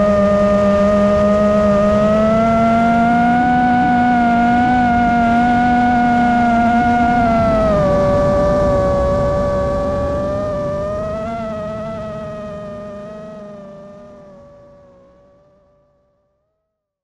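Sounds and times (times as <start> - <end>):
low wind rumble: 0.0 - 15.1
quadcopter motors whining: 0.0 - 15.4.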